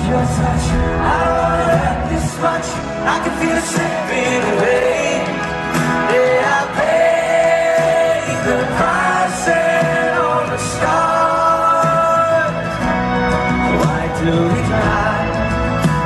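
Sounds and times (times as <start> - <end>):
man singing: 0.0 - 16.0
strummed acoustic guitar: 0.0 - 16.0.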